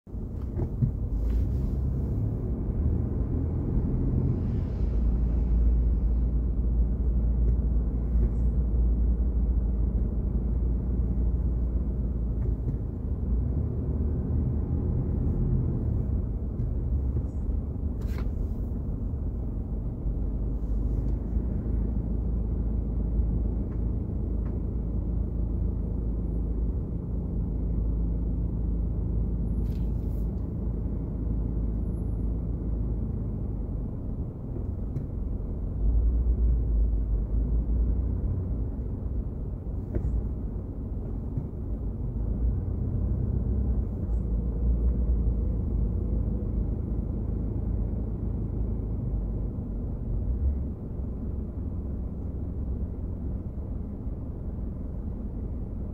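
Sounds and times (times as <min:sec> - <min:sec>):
city street traffic rumble: 0:00.0 - 0:55.9.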